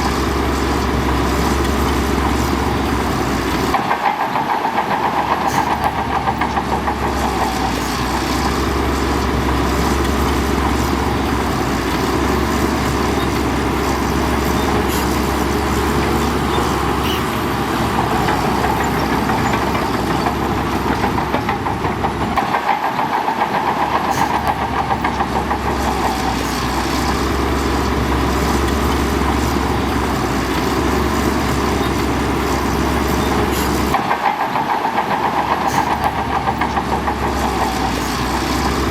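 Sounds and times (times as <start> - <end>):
diesel engine rumbling: 0.0 - 4.1, 5.0 - 22.7, 23.6 - 34.3, 35.1 - 38.9.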